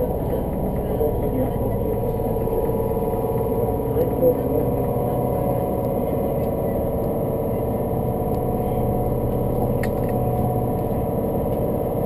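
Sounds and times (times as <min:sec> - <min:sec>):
electric train equipment hum: 0:00.0 - 0:12.0.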